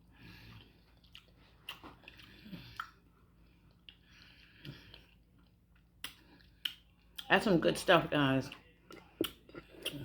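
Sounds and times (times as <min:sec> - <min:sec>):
close-up chewing: 0:00.0 - 0:07.4, 0:08.5 - 0:10.0.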